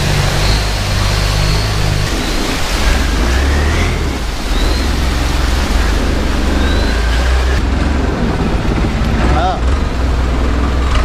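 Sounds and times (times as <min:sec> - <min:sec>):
boat motor rumbling: 0:00.0 - 0:11.0
water rushing: 0:00.0 - 0:11.0
wind: 0:00.0 - 0:11.0.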